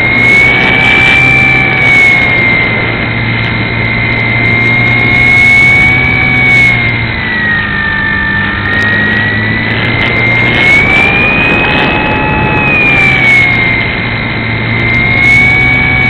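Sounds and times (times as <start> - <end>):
electric motor and propeller whining: 0.0 - 16.0
wind rushing past: 0.0 - 16.0.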